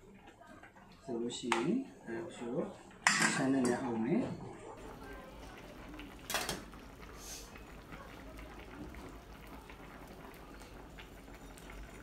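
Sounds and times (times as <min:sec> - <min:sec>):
broth simmering and bubbling: 0:00.0 - 0:12.0.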